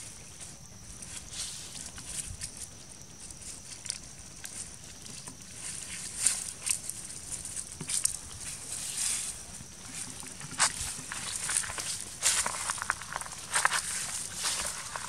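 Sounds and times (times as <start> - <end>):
dry leaves crackling underfoot: 0.5 - 15.0.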